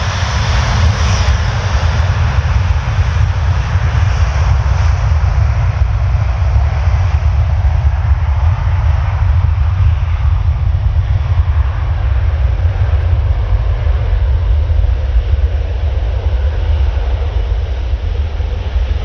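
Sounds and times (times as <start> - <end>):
jet engines roaring at takeoff: 0.0 - 19.0.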